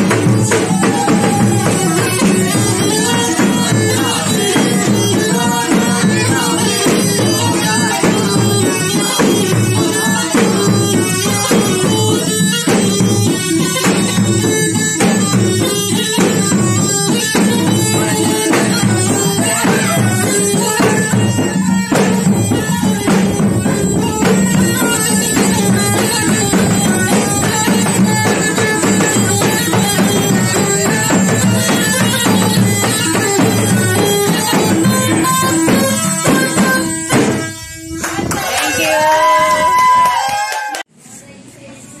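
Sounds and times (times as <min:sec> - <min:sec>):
bagpipe folk melody: 0:00.0 - 0:38.3
barrel drums beating: 0:00.0 - 0:38.3.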